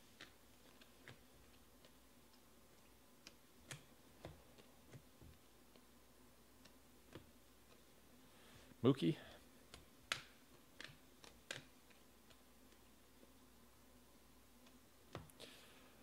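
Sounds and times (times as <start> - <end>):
cards clicking and ticking: 0.0 - 8.2, 9.4 - 13.4, 14.5 - 15.5.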